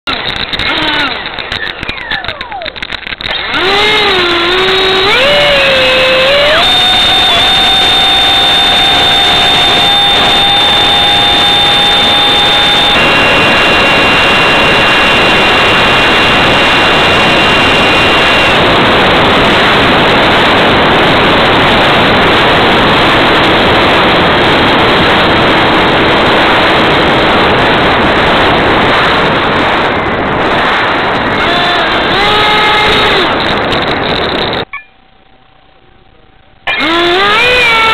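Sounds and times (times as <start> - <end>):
electric ducted fan rushing: 0.1 - 37.9
faint whine tones: 0.1 - 37.9.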